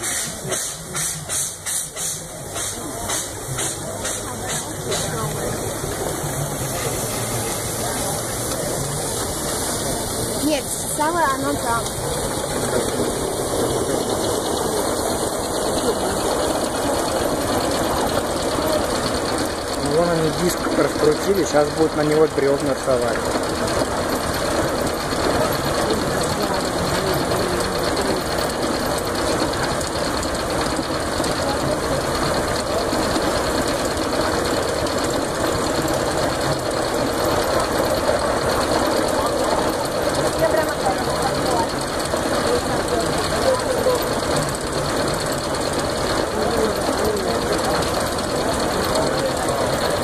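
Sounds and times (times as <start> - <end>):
sawmill machinery clatter: 0.0 - 50.0
steam engine running: 0.0 - 50.0.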